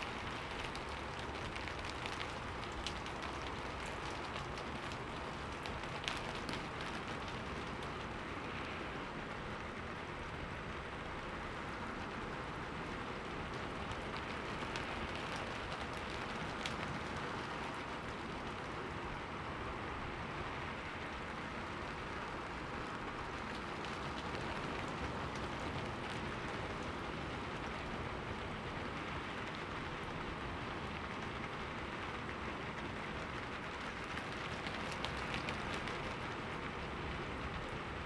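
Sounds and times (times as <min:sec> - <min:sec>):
rain falling on a window: 0:00.0 - 0:38.0.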